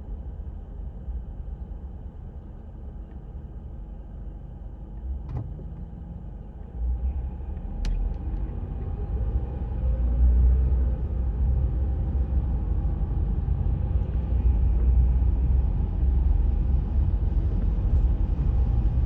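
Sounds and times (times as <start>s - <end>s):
car rumbling on road: 0.6s - 19.0s.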